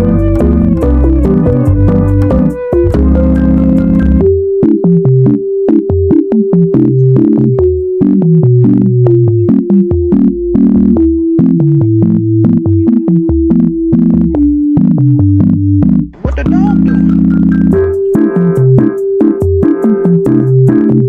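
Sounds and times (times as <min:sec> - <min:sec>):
electronic synthesizer music with beat: 0:00.0 - 0:21.0.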